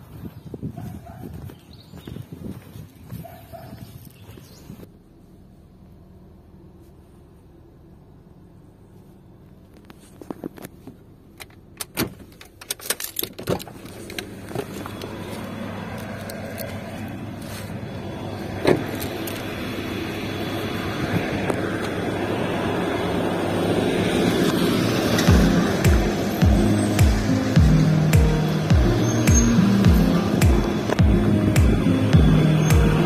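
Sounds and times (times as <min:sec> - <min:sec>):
outdoor traffic noise: 0:00.0 - 0:33.0.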